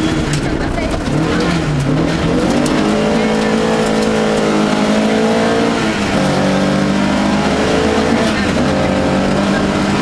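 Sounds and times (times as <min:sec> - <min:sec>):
gravel and road noise: 0:00.0 - 0:10.0
rally car engine pulling hard: 0:00.0 - 0:10.0.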